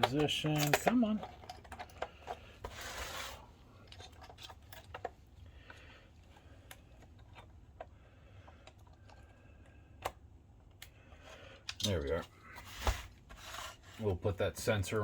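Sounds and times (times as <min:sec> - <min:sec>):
small parts clicking and rubbing: 0:00.0 - 0:14.1.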